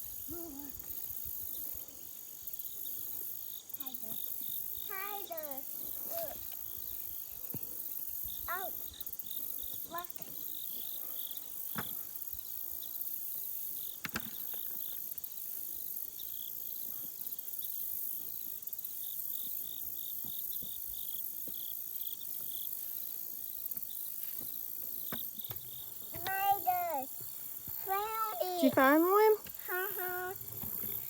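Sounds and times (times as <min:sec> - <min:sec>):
insects chirping rhythmically: 0:00.0 - 0:31.0
shrill insect hiss: 0:00.0 - 0:31.0.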